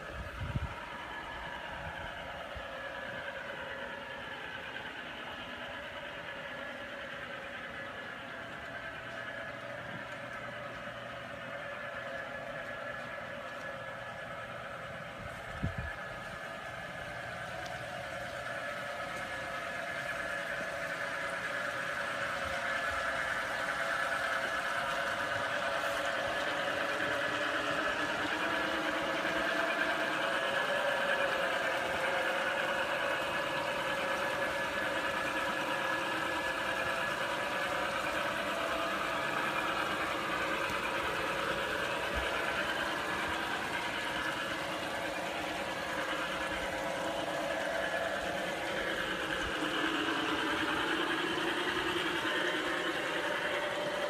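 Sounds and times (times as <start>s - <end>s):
model train motor whine: 0.0s - 54.0s.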